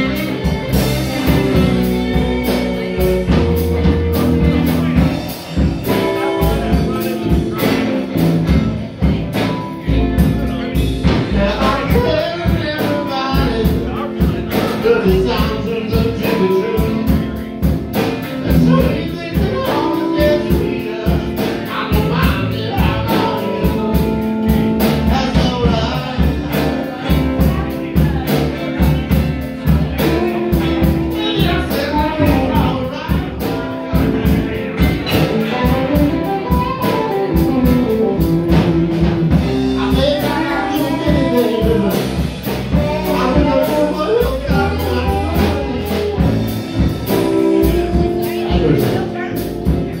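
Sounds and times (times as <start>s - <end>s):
live rock band playing: 0.0s - 50.0s
person singing: 0.0s - 50.0s.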